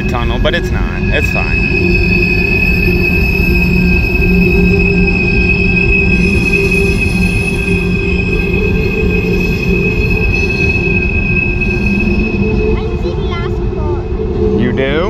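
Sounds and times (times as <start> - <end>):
low train rumble: 0.0 - 15.0
train wheels squealing on rails: 0.0 - 15.0.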